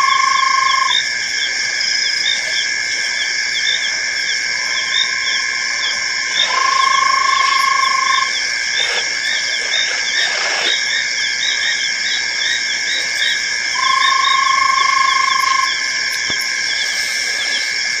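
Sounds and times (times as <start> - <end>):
frogs and insects shrill chirps: 0.0 - 18.0
long low frog call: 0.0 - 18.0.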